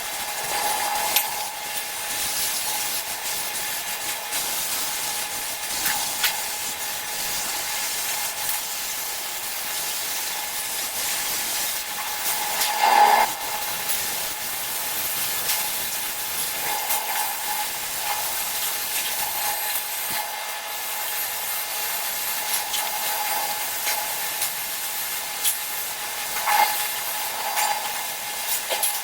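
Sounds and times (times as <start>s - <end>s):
welding arc hissing: 0.0s - 29.0s.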